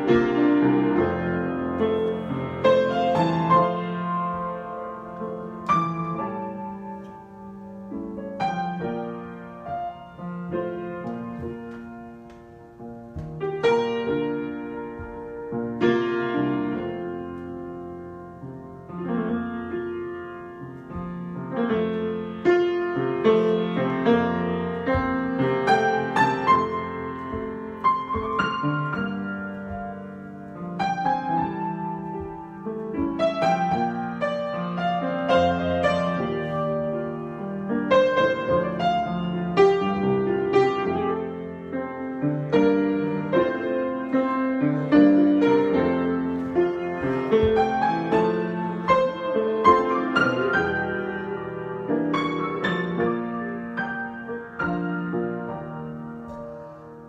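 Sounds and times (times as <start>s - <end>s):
solo piano playing: 0.0s - 57.0s.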